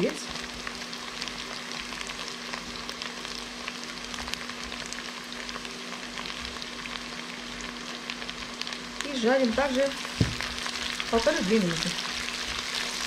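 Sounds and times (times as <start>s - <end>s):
peppers sizzling in oil: 0.0s - 13.0s.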